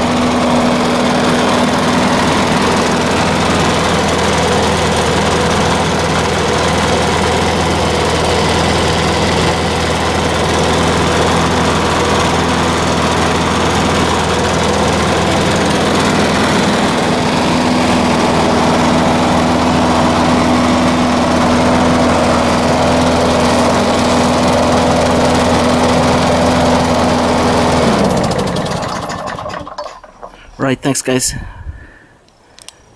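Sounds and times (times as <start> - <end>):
lawnmower engine running: 0.0 - 31.0.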